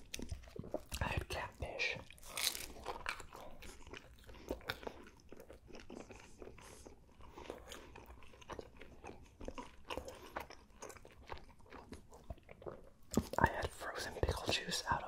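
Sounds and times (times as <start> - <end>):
chewing pizza crunches: 0.0 - 15.0.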